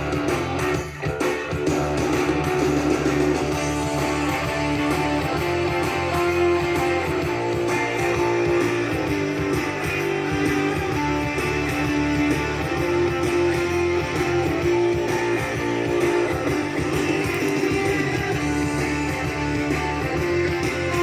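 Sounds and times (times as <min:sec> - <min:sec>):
bass playing: 0:00.0 - 0:21.0
strummed guitars: 0:00.0 - 0:21.0.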